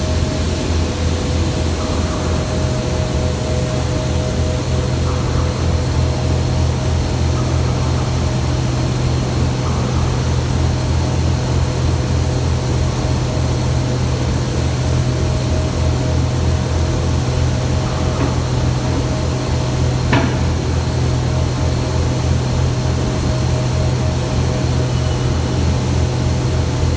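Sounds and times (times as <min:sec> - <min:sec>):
industrial machinery drone: 0:00.0 - 0:26.9.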